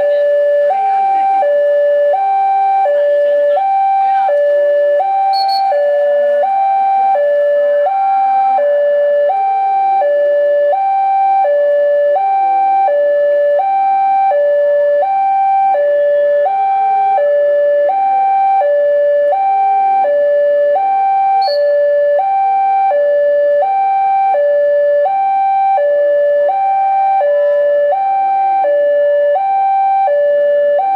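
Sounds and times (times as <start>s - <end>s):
level crossing two-tone alarm: 0.0s - 30.9s.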